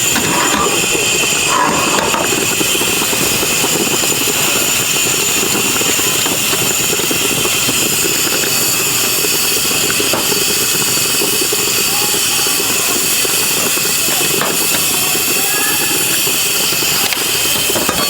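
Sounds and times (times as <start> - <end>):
steam hissing from steamers: 0.0 - 18.0.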